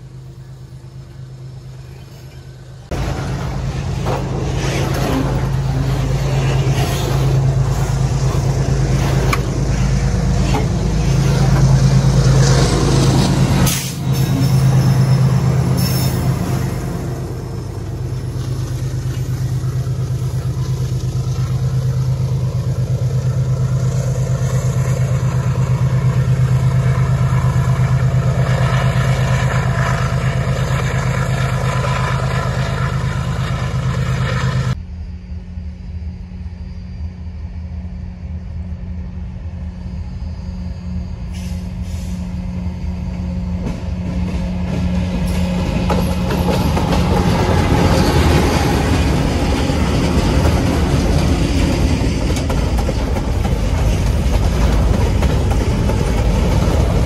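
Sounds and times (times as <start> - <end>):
freight wagons rumbling: 0.0 - 34.8, 41.3 - 57.0
diesel locomotive engine drone: 0.0 - 57.0.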